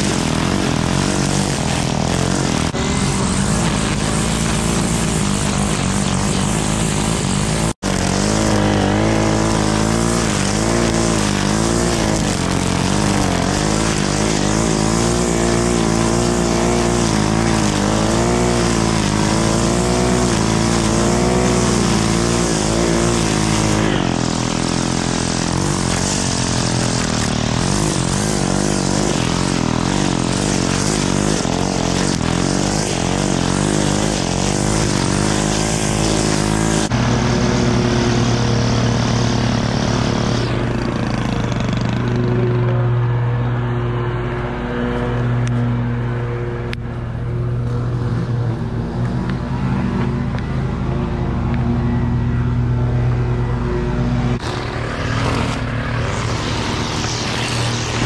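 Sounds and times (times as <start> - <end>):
string trimmer engine running: 0.0 - 58.0.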